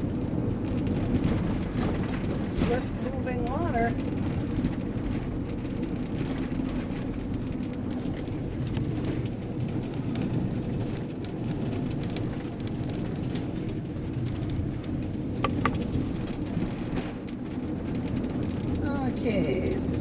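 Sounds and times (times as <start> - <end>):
motorhome road and engine rumble: 0.0 - 20.0.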